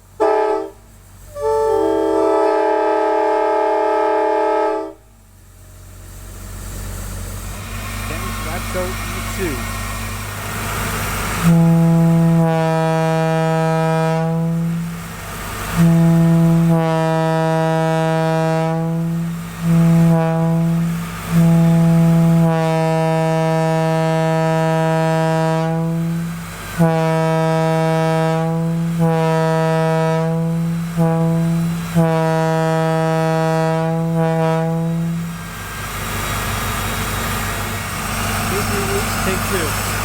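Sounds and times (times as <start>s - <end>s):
locomotive air horn blasts: 0.2s - 5.2s, 11.3s - 35.8s, 37.1s - 40.0s.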